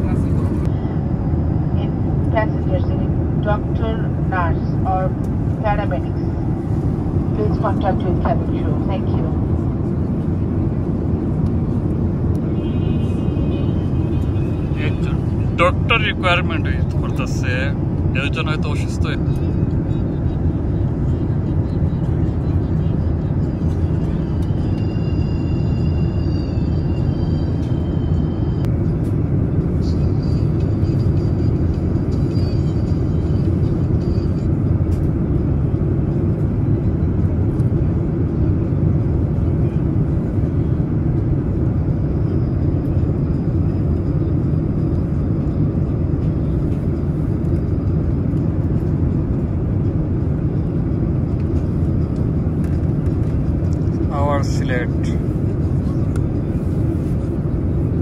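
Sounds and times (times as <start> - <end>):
aircraft cabin drone: 0.0 - 58.0.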